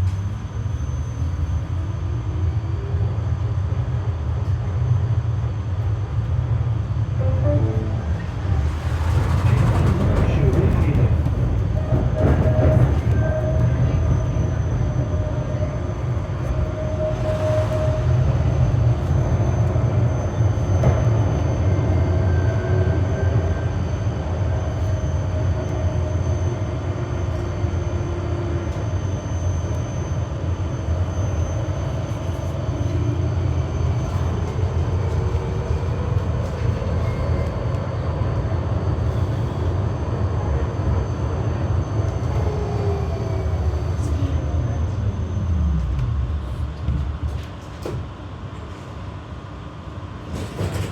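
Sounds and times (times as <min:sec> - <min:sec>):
tram wheels rumbling on rails: 0:00.0 - 0:50.9.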